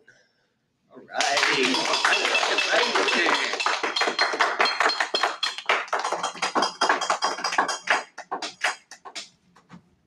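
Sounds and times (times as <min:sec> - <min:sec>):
people clapping: 0:01.1 - 0:09.4.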